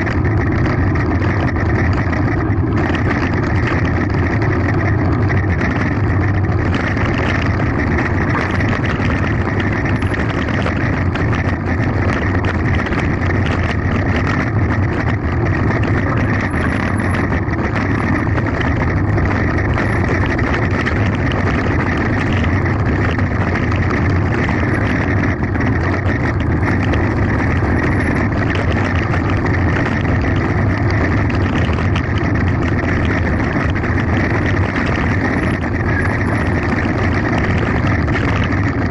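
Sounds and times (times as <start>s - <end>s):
bike rattling over gravel: 0.0s - 38.9s
wind rushing over microphone: 0.0s - 38.9s.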